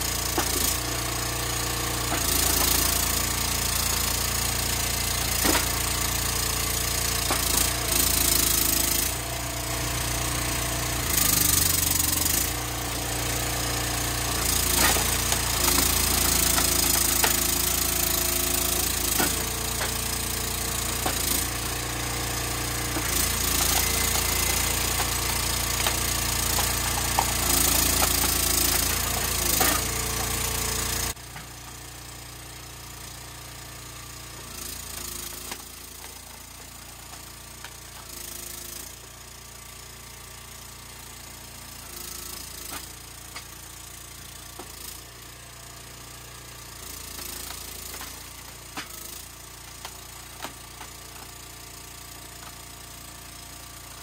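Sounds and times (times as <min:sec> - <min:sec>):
log splitter engine running: 0:00.0 - 0:54.0.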